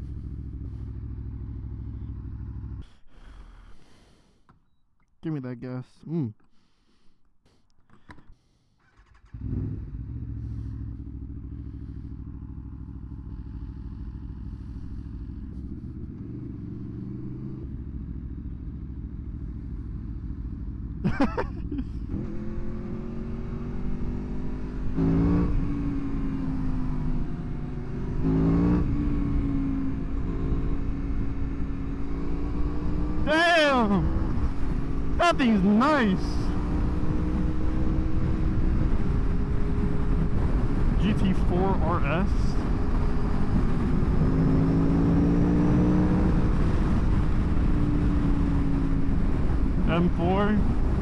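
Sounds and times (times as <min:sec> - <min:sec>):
motorcycle engine accelerating: 0:00.0 - 0:02.8, 0:08.8 - 0:51.0.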